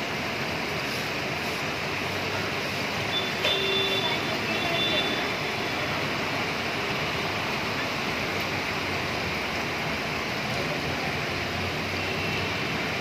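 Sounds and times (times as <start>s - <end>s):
heavy rain on pavement: 0.0s - 13.0s.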